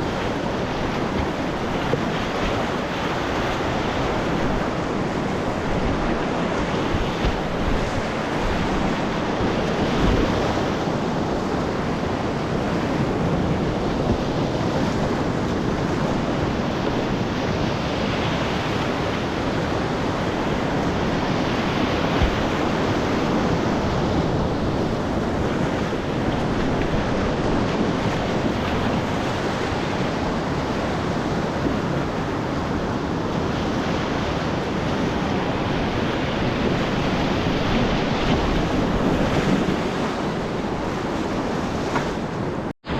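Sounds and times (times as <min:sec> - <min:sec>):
whitewater rushing: 0:00.0 - 0:42.9.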